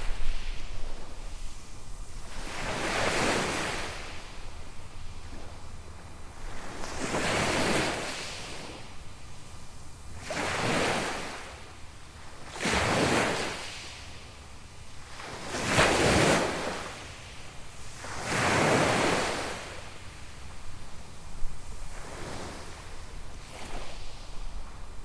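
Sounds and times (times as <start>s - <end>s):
small waves breaking on sand: 0.0s - 25.0s.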